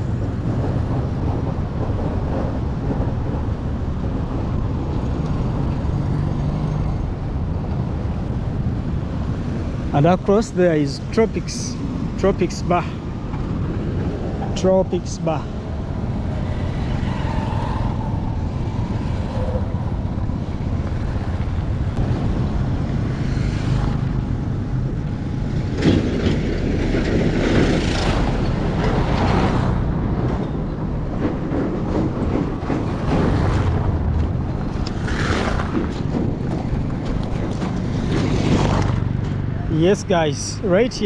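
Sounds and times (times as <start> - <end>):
vehicle engines and tyres rumbling: 0.0 - 41.0.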